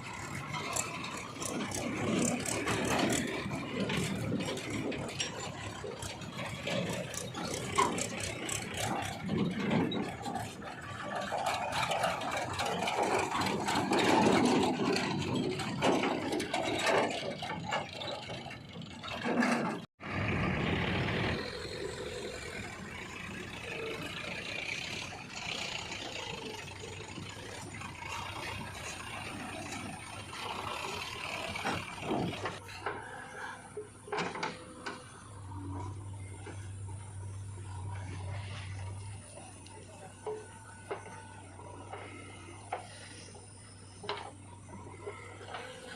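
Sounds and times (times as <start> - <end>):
diesel engine running: 0.0 - 45.9
rattling and clanking: 0.0 - 45.9.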